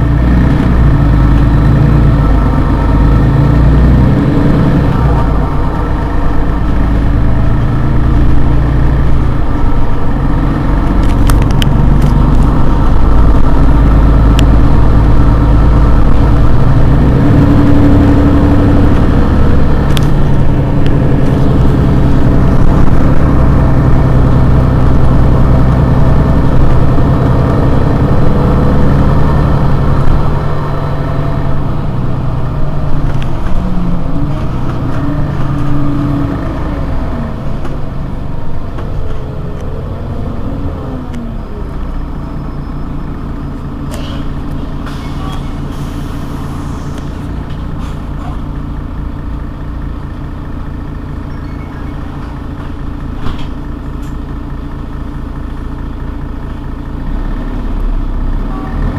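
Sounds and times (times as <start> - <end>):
bus engine idling: 0.0 - 58.9.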